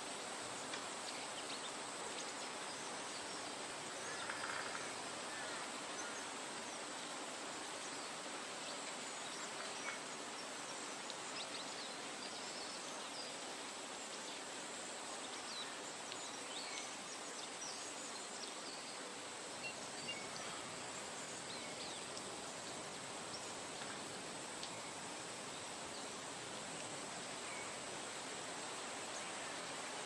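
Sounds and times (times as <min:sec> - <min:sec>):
wind in foliage: 0:00.0 - 0:30.0.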